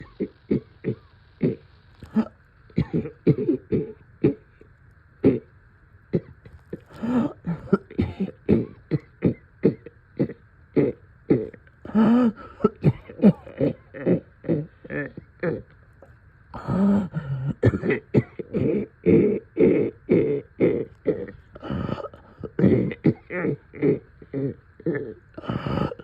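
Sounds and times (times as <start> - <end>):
person coughing: 0.0 - 4.4, 6.1 - 15.7, 16.6 - 26.0
throat clearing: 0.0 - 4.5, 6.1 - 26.0.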